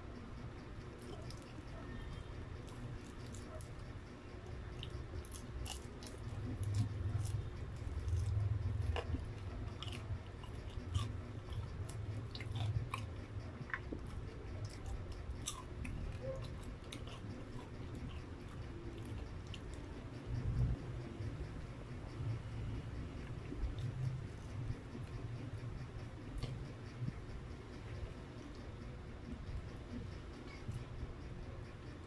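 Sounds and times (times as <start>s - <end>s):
chewing crunchy fried chicken: 0.6s - 32.0s.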